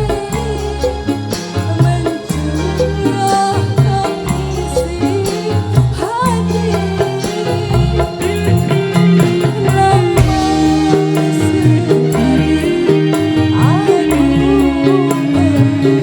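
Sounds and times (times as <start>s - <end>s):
live band music through a pa: 0.0s - 16.0s.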